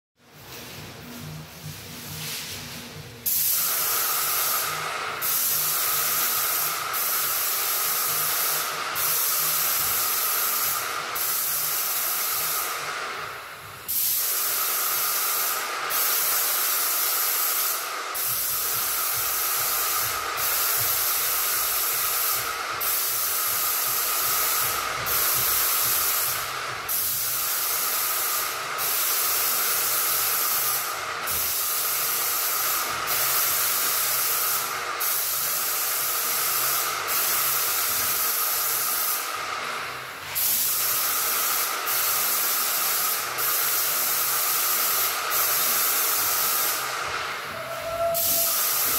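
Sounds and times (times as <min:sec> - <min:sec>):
paint sprayer hissing: 0:01.2 - 0:48.9.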